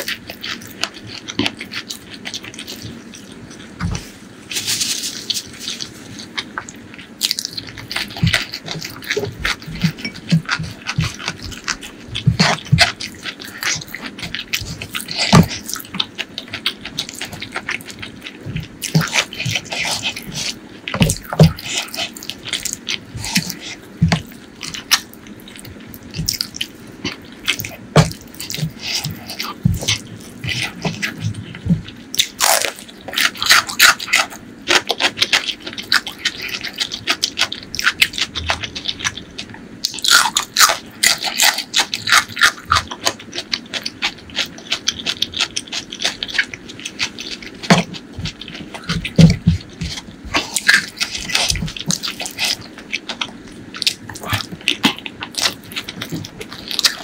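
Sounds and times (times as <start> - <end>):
wet chewing and lip smacking: 5.0 - 57.0.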